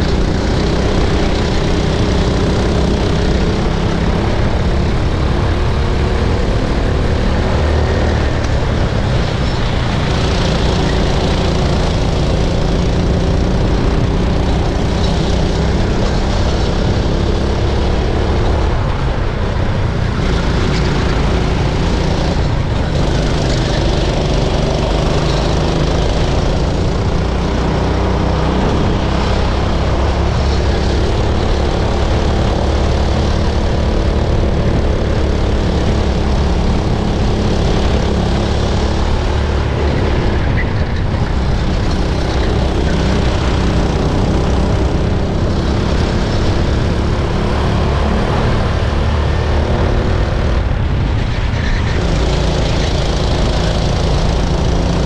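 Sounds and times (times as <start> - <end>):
racing kart engine at high revs: 0.0 - 55.0.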